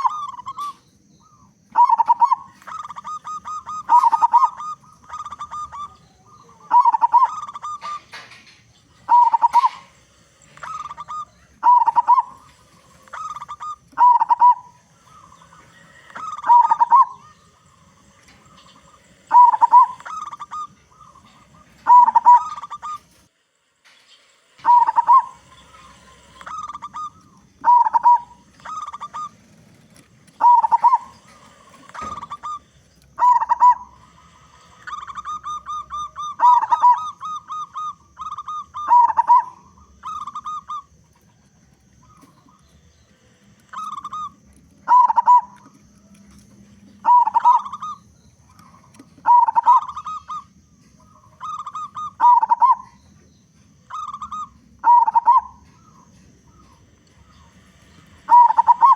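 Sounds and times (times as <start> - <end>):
dove cooing song: 0.0 - 23.3, 23.9 - 58.9.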